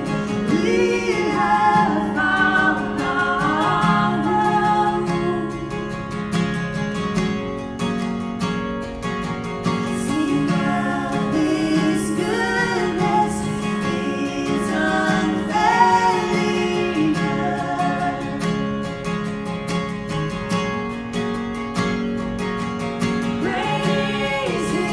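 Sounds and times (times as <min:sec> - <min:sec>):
strummed acoustic guitar: 0:00.0 - 0:24.9.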